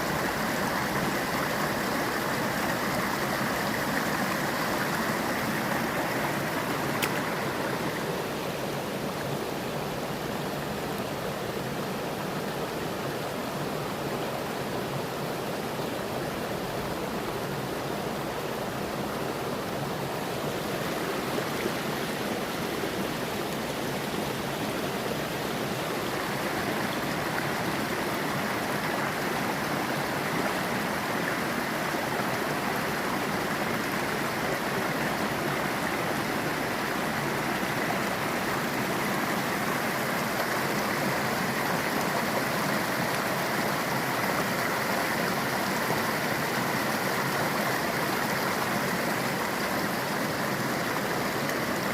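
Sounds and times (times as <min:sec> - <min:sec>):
stream water running over rocks: 0:00.0 - 0:51.9.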